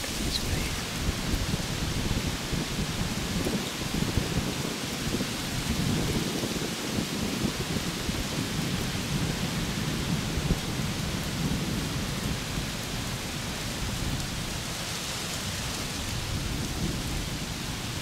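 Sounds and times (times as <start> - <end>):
strong wind on microphone: 0.0 - 18.0.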